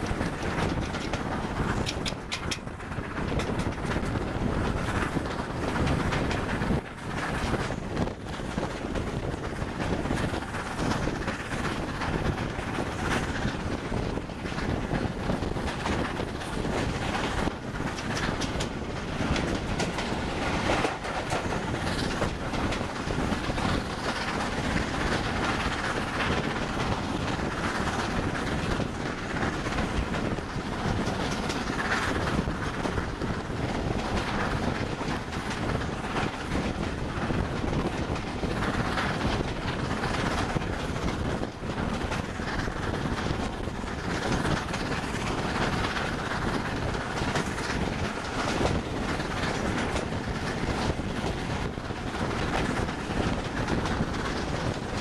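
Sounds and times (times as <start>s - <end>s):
steady rush of train running: 0.0s - 55.0s
train wheels clickety-clack: 0.0s - 55.0s.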